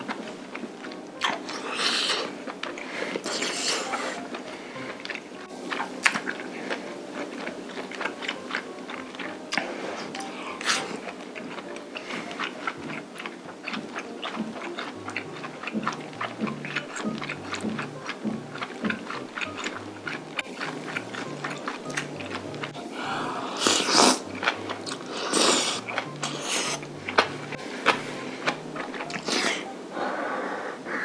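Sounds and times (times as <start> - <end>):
wet chewing: 0.0 - 30.1
light background music: 0.0 - 31.0.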